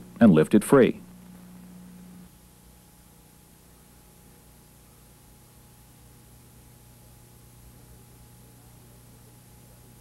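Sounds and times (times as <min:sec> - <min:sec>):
faint steady hiss: 0:00.0 - 0:10.0
low electrical hum: 0:00.0 - 0:10.0.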